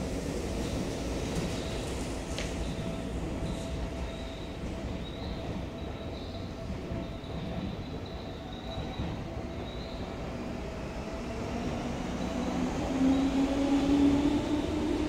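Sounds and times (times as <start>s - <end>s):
electric train pulling away: 0.0s - 15.0s.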